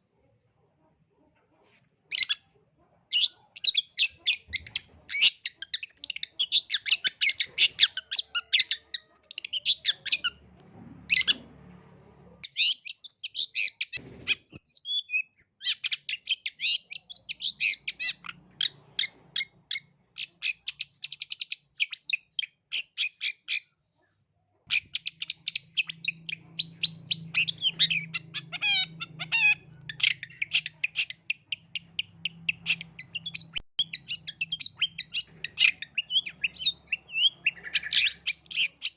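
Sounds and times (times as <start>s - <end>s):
bird singing chattering song: 3.1s - 10.4s, 12.4s - 23.7s, 24.7s - 38.9s.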